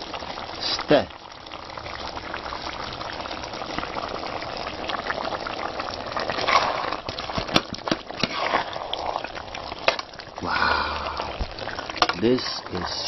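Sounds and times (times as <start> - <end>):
soup bubbling in a pot: 0.0 - 13.0.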